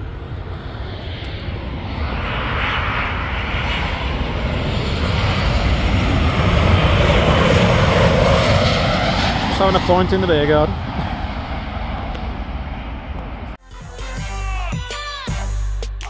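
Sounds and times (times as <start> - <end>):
jet airliner flying low overhead: 0.0 - 13.6.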